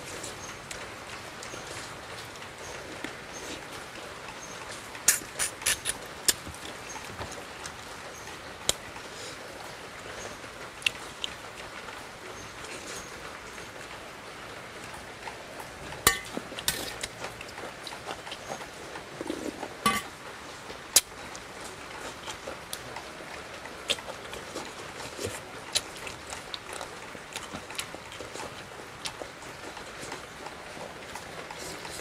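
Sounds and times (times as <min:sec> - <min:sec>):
chewing and mouth noises: 0:00.1 - 0:14.0, 0:14.8 - 0:32.0.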